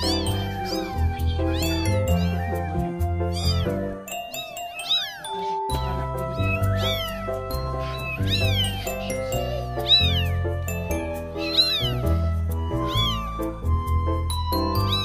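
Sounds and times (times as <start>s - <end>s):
background music with bass line: 0.0s - 4.2s, 5.7s - 15.0s
kittens mewing: 0.0s - 13.4s, 14.7s - 15.0s.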